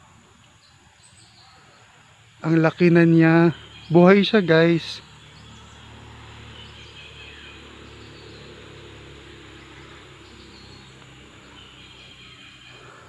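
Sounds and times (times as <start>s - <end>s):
faint bird chirps: 0.0s - 13.0s
insects buzzing: 0.0s - 13.0s.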